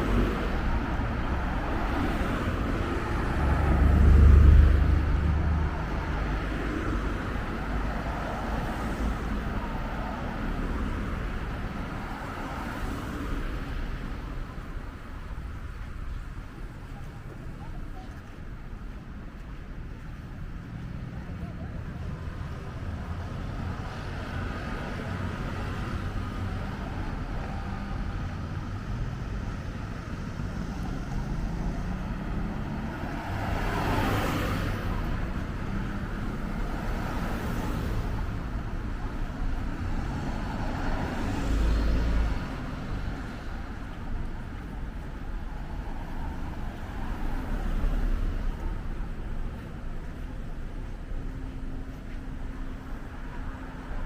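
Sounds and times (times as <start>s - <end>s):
cars passing close by: 0.0s - 54.0s
traffic rumble: 0.0s - 54.0s.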